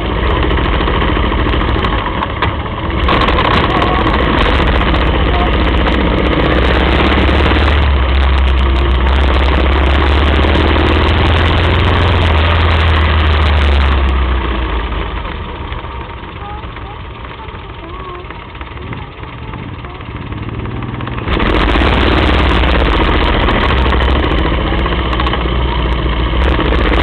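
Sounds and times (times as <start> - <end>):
rushing noise: 0.0 - 17.4, 18.2 - 27.0
motorcycle engine drone: 0.0 - 27.0.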